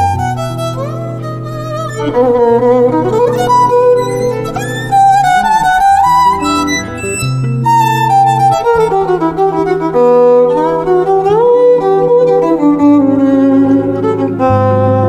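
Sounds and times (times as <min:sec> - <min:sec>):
violin jazz melody: 0:00.0 - 0:15.0.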